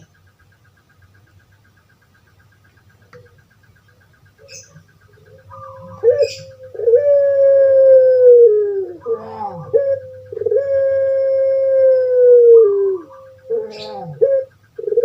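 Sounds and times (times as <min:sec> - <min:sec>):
dove cooing: 0:03.0 - 0:15.0.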